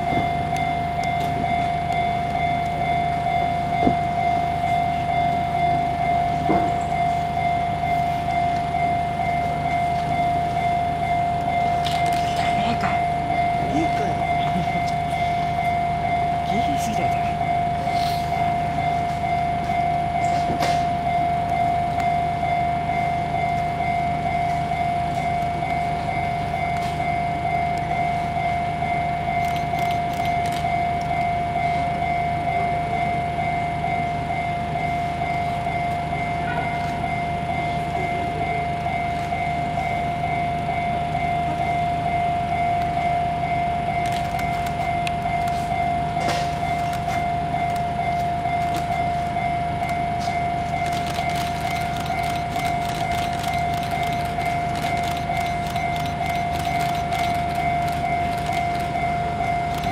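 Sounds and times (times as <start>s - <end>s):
level-crossing warning bell: 0.0s - 59.9s.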